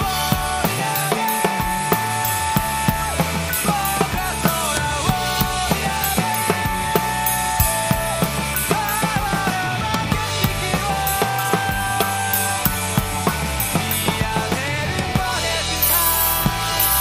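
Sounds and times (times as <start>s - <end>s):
acoustic drum kit playing: 0.0s - 17.0s
person singing: 0.0s - 17.0s
recorded rock song: 0.0s - 17.0s.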